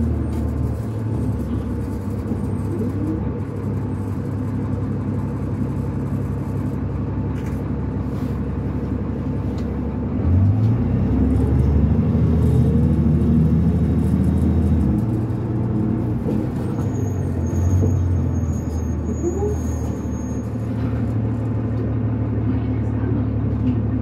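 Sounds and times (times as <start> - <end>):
bus diesel engine: 0.0 - 24.0.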